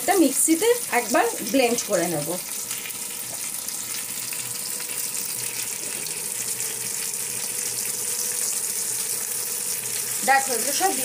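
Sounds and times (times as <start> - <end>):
fish sizzling in hot oil: 0.0 - 11.0
water bubbling in a pan: 0.0 - 11.0.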